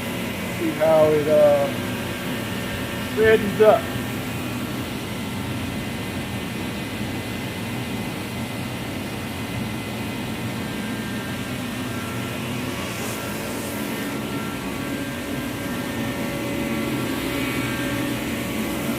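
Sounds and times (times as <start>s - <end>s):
forced-air heater whooshing hum: 0.0s - 18.9s.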